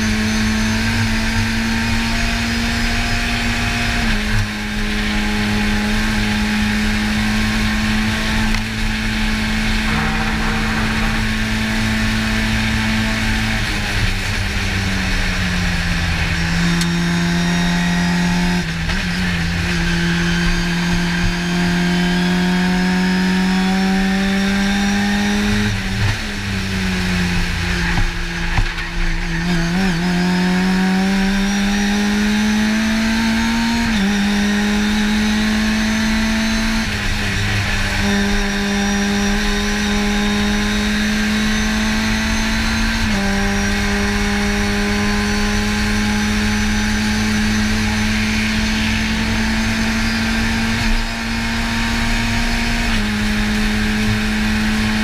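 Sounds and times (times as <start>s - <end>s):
race car engine revving: 0.0s - 55.0s
road and wind noise: 0.0s - 55.0s.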